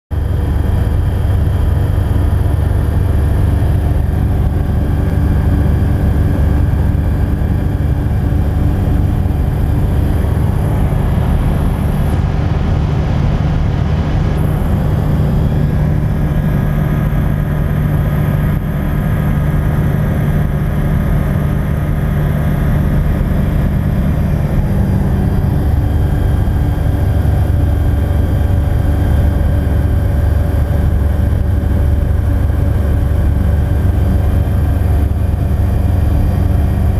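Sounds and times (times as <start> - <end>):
light aircraft engine drone: 0.1 - 36.9.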